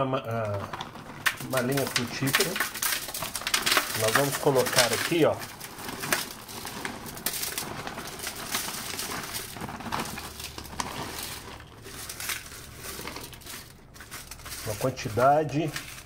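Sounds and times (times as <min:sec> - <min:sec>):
foil and bag crinkling: 0:00.4 - 0:16.0
wood chips poured and rustling: 0:00.4 - 0:16.0.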